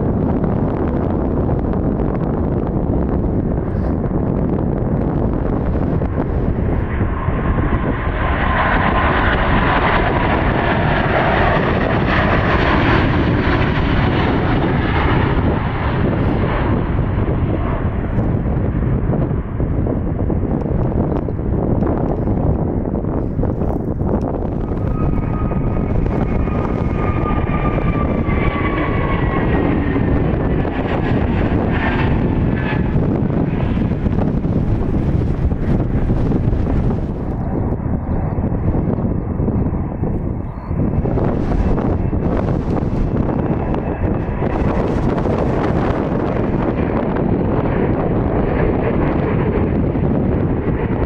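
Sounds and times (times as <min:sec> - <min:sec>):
jet engines roaring at takeoff: 0:00.0 - 0:51.0.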